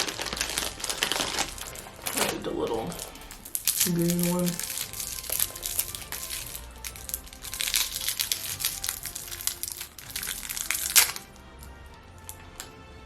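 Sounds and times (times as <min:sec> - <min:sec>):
candy wrapper crinkling: 0:00.0 - 0:12.8
quiet background music: 0:00.0 - 0:13.0.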